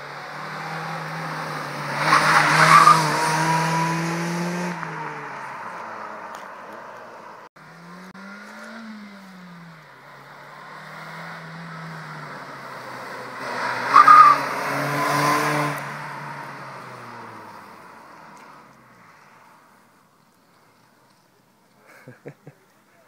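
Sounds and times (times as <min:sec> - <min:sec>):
car engine accelerating: 0:00.0 - 0:21.2.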